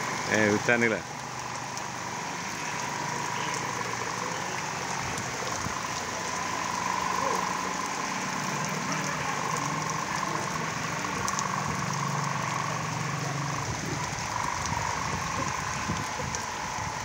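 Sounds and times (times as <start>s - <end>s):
heavy rain: 0.0s - 17.0s
low engine-like hum: 0.0s - 17.0s.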